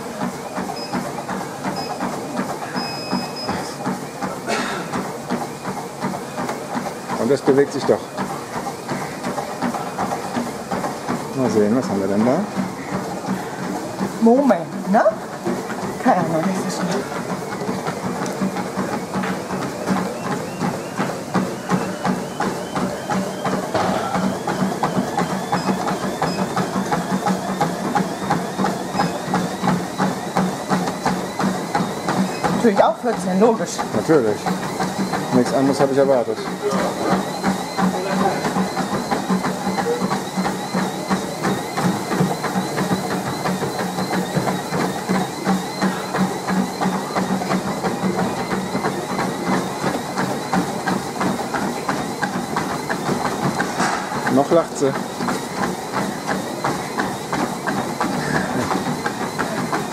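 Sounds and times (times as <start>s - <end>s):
running footfalls on treadmill: 0.0s - 59.9s
treadmill motor hum: 0.0s - 59.9s.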